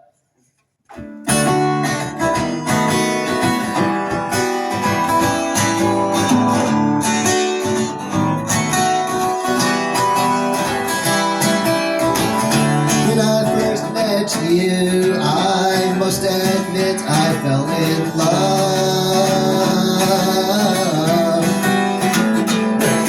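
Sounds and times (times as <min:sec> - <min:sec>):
acoustic guitar strumming: 0:00.9 - 0:23.0.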